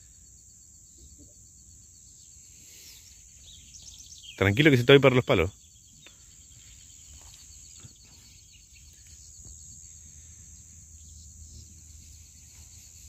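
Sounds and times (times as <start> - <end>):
high insect hum: 0.0 - 13.0.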